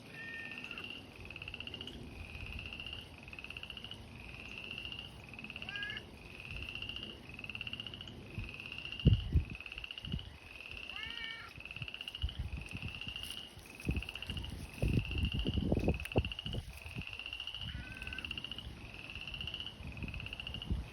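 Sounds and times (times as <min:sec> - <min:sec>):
frogs trilling: 0:00.0 - 0:20.9.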